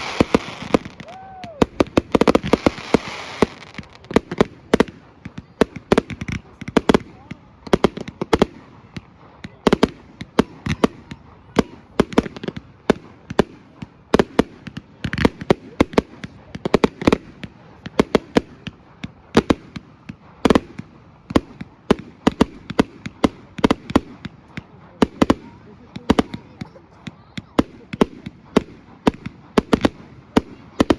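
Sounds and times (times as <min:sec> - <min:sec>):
fireworks bangs and crackles: 0:00.0 - 0:30.9.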